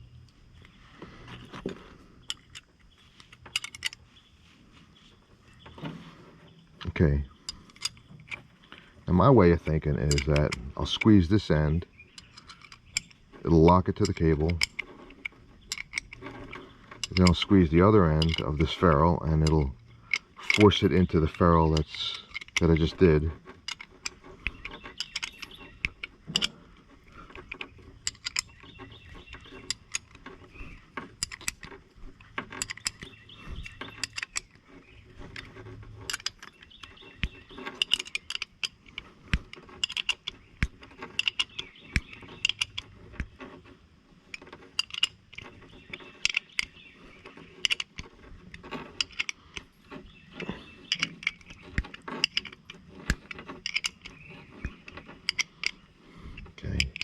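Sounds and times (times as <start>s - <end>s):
metal tool clicking and clinking: 2.2s - 4.0s, 9.8s - 43.6s, 44.3s - 49.6s, 50.3s - 55.9s.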